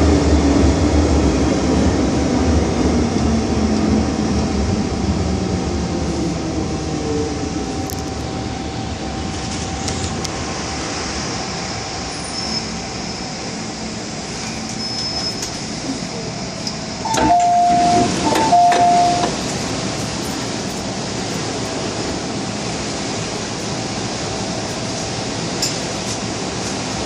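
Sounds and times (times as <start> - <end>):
train running rumble: 0.0 - 27.0.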